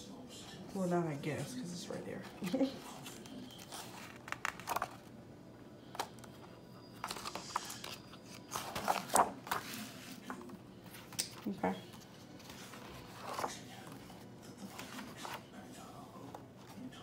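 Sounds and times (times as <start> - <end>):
paper rustling: 2.2 - 5.2, 5.9 - 17.0.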